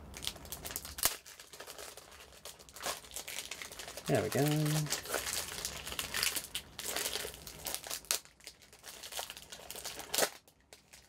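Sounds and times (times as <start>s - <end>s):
cellophane wrap crinkling: 0.0s - 11.0s.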